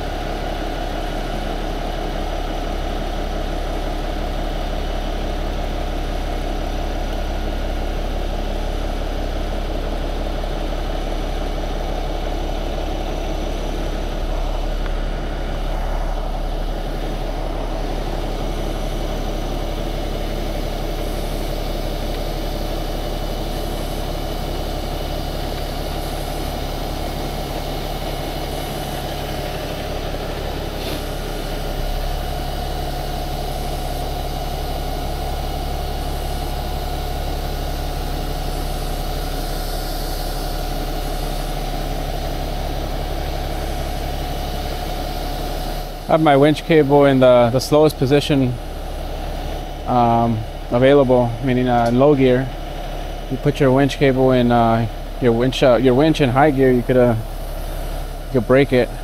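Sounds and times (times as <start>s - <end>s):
diesel truck engine humming: 0.0s - 59.0s.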